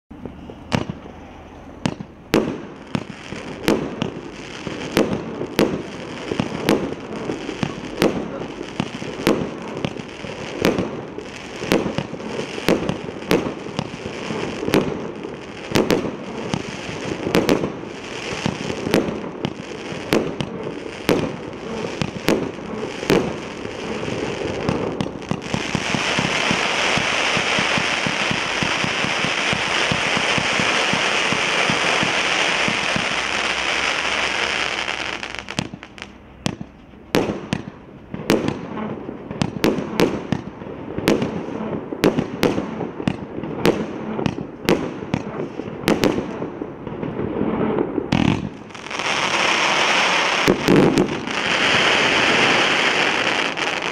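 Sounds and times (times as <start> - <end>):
firework bangs: 0.1 - 53.9
firework crackle and hiss: 0.2 - 53.9.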